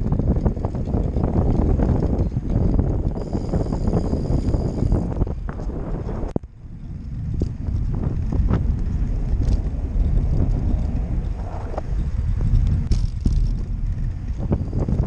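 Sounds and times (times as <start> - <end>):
bike knocking and rattling: 0.0 - 15.0
tyres rolling over asphalt: 0.0 - 15.0
wind buffeting microphone: 0.0 - 15.0.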